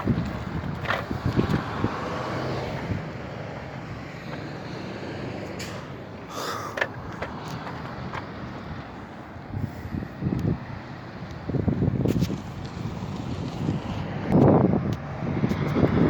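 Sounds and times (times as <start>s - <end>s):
wind rumbling on microphone: 0.0s - 6.0s, 7.0s - 16.0s.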